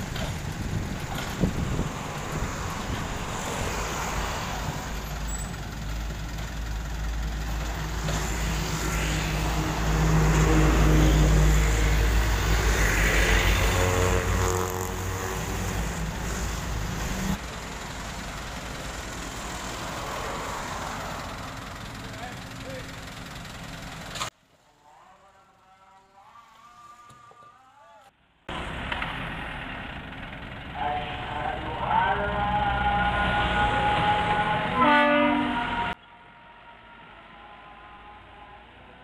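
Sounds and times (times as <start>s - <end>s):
diesel engine running: 0.0s - 24.3s, 28.2s - 38.5s
diesel truck passing: 0.0s - 24.3s, 28.2s - 39.0s
traffic noise: 0.0s - 39.0s.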